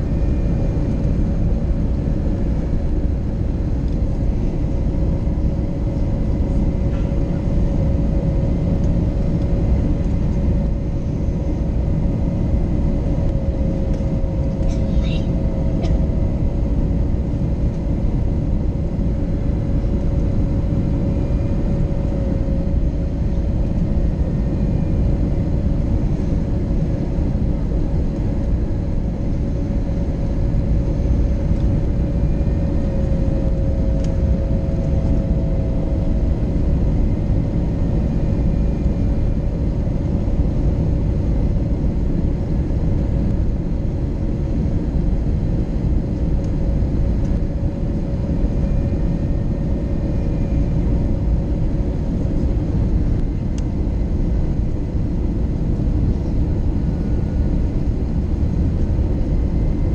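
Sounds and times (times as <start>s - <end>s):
constant droning tone: 0.0s - 59.9s
roar of engines and airflow: 0.0s - 59.9s.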